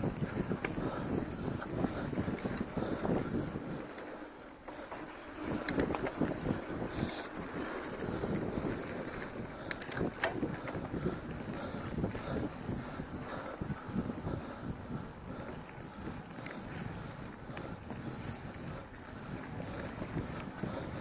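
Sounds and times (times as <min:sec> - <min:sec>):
bike rattling: 0:00.0 - 0:21.0
bike tyres rumbling over dirt: 0:00.0 - 0:21.0
wind buffeting microphone: 0:00.0 - 0:21.0.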